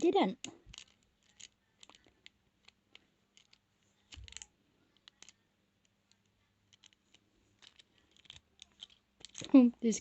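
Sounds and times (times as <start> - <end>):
lock picks clicking and scraping: 0.4 - 9.6.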